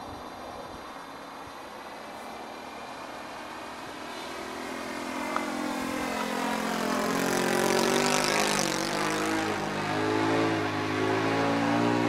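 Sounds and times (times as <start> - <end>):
model aeroplane engine flying by: 1.1 - 11.2.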